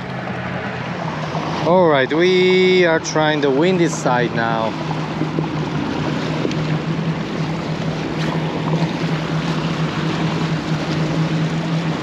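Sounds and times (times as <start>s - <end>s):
low hum: 0.0s - 12.0s
water splashing against rocks: 0.0s - 12.0s.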